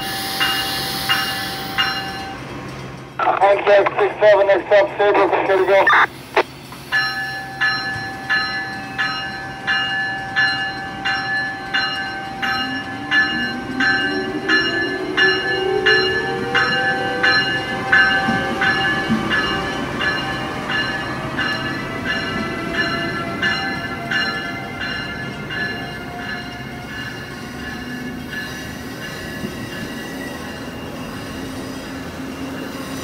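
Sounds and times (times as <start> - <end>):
locomotive bell ringing: 0.0 - 3.0, 6.8 - 33.0.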